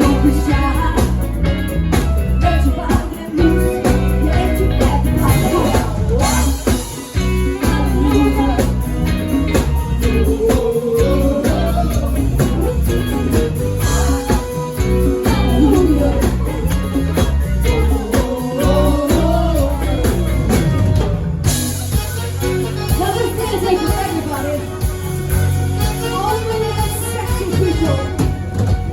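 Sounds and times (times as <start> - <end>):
band music with heavy bass: 0.0 - 28.9
gliding lead melody: 0.0 - 28.9.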